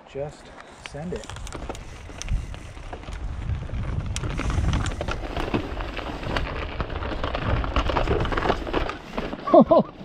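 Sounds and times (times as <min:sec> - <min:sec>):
bike tyres rumbling over dirt: 0:01.2 - 0:10.0
bike knocking and clattering: 0:01.3 - 0:09.5.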